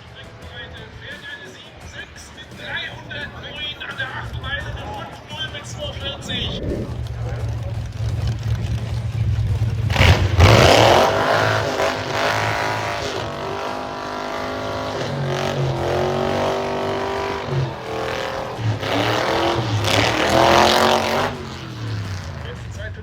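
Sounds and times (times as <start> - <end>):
race car engine high revs: 2.4 - 22.9.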